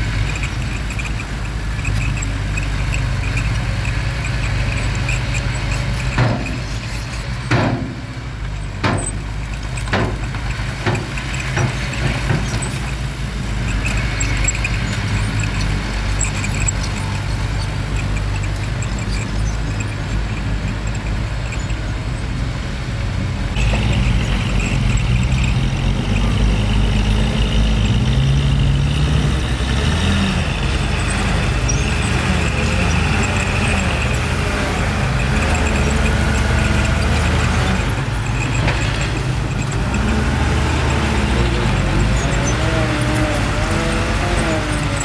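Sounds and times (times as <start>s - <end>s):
bulldozer diesel engine under load: 0.0s - 45.0s.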